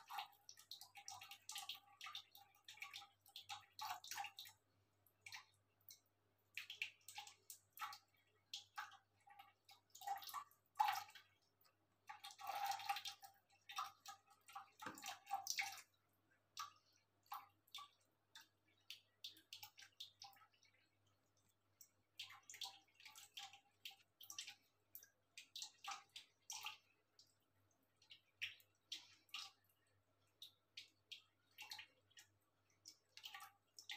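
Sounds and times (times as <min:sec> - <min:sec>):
cats lapping water: 0:00.0 - 0:33.9.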